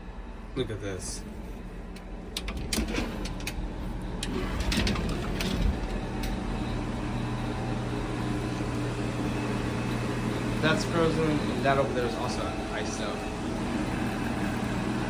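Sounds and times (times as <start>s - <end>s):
heat pump humming: 0.0s - 15.0s.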